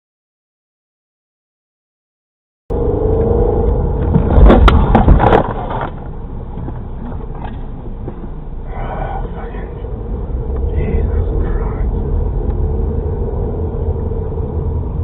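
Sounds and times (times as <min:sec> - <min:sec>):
vehicle road and engine rumble: 0:02.7 - 0:15.0.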